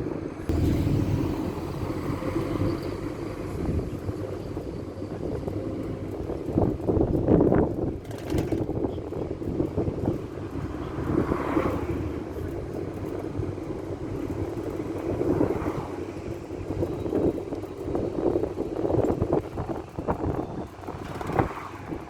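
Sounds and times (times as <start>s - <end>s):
road noise: 0.0s - 22.0s
vehicle engine rumble: 0.0s - 22.0s.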